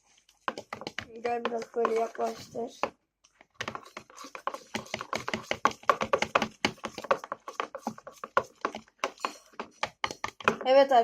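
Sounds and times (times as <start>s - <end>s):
spoon stirring glue: 0.0s - 10.9s.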